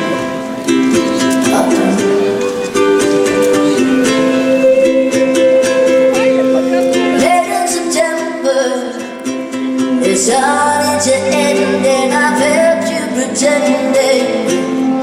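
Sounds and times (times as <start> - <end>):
woman singing: 0.9 - 15.0.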